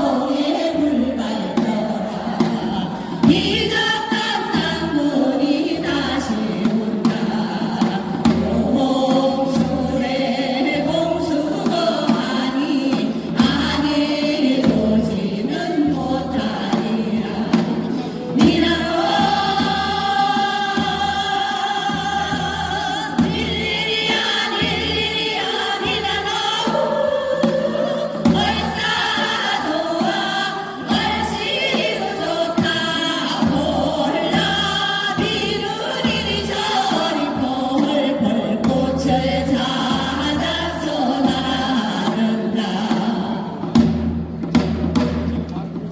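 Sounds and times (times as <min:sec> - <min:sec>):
group singing with accompaniment: 0:00.0 - 0:45.9.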